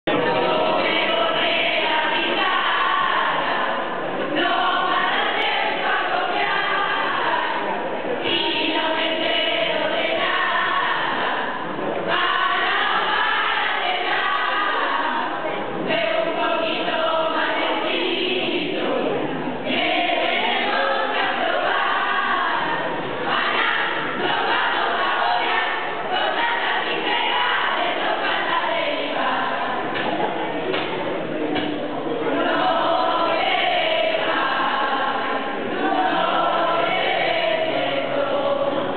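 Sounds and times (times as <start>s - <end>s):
group singing a carol in unison: 0.1s - 30.6s, 32.2s - 38.9s.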